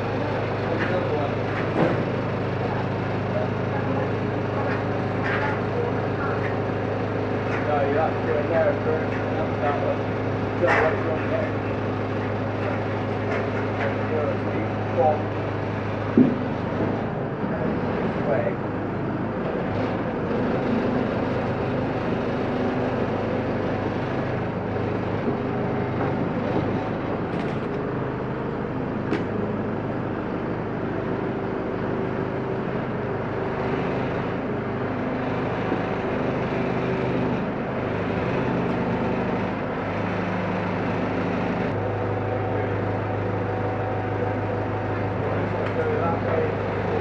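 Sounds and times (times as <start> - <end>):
diesel engine under load: 0.0 - 47.0.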